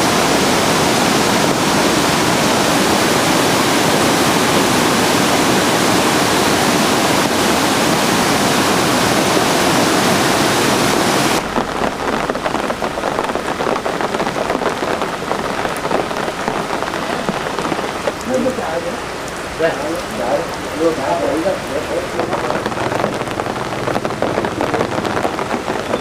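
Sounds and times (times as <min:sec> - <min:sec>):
heavy rain in wind: 0:00.0 - 0:26.0
rain pattering on surface: 0:00.0 - 0:26.0.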